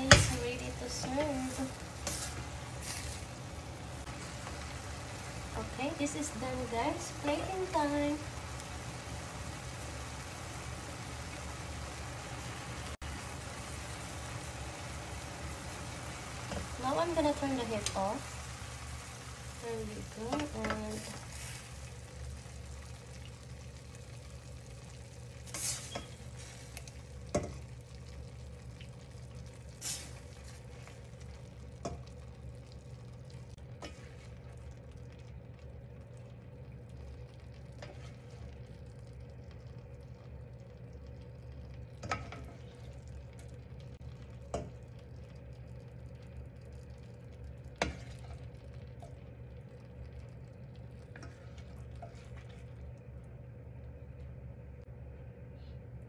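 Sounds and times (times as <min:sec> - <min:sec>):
liquid sizzling in a pan: 0:00.0 - 0:54.0
low hum: 0:00.0 - 0:56.0.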